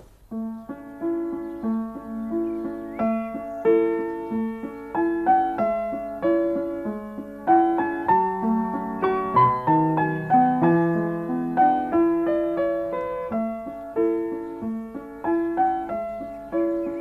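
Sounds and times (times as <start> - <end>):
piano melody of single notes: 0.0 - 17.0.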